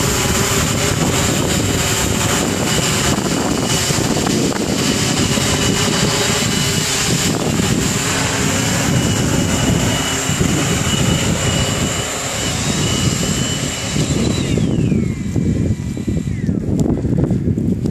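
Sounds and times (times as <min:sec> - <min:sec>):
drone motors whining: 0:00.0 - 0:17.8
wind rumbling on microphone: 0:00.0 - 0:17.9.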